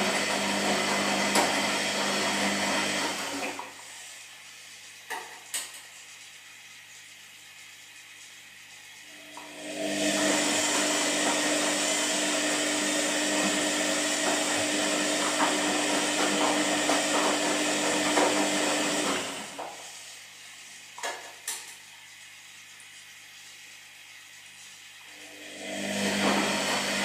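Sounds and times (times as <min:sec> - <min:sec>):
washing machine motor running: 0:00.0 - 0:27.0.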